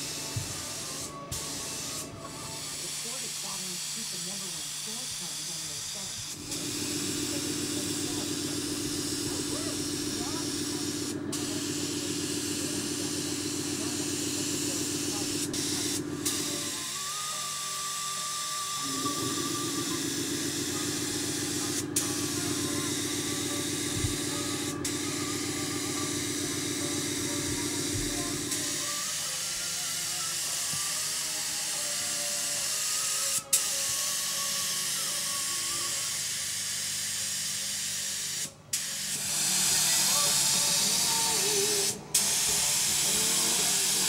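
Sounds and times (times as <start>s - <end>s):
spray gun hissing: 0.0s - 35.2s, 35.8s - 44.0s.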